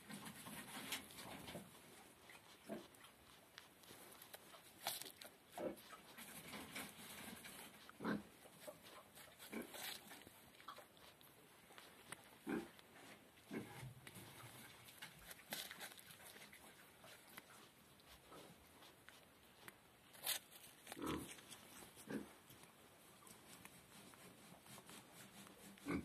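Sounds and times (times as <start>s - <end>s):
animal chewing apple: 0.0s - 26.0s.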